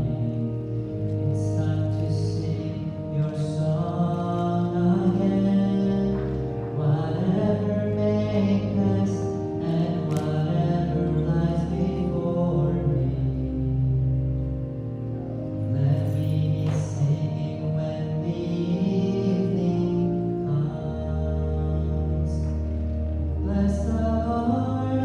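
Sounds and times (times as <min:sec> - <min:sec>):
held accompanying chords: 0:00.0 - 0:25.0
hymn singing: 0:00.0 - 0:25.0.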